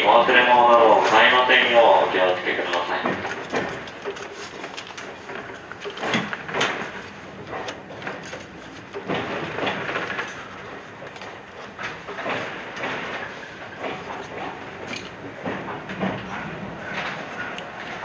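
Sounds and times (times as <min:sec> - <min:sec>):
train steady rumble: 0:00.0 - 0:18.0
wheels knocking over rail joints: 0:00.0 - 0:18.0.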